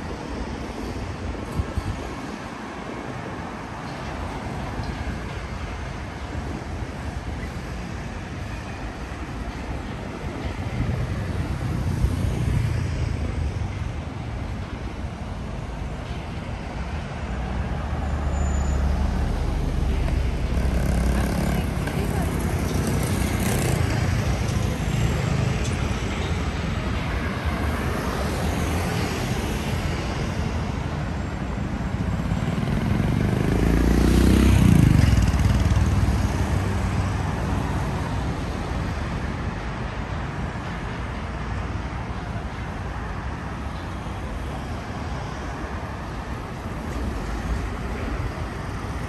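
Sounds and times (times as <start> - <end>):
city street traffic: 0.0 - 49.0.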